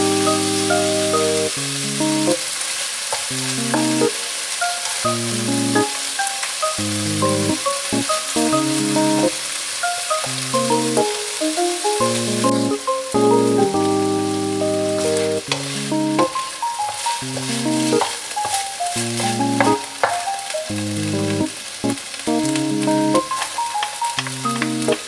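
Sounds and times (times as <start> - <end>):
background music of held chords: 0.0 - 2.4, 3.3 - 25.0
chicken sizzling in oil: 0.0 - 25.0.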